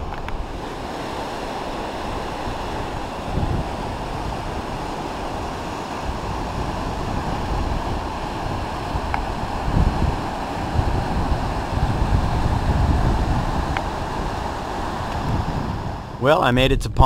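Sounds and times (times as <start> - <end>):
river current rushing: 0.0 - 16.4
wind buffeting microphone: 0.0 - 17.0.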